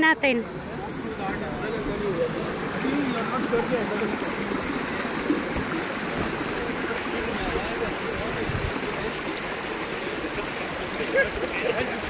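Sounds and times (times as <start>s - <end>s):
fountain jets splashing and bubbling: 0.0s - 12.0s.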